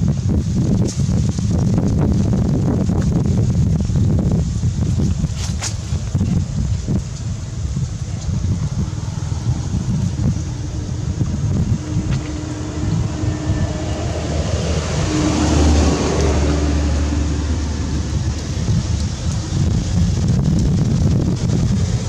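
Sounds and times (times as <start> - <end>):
wind buffeting microphone: 0.0 - 22.0
passing vehicle engine hum: 1.1 - 22.0.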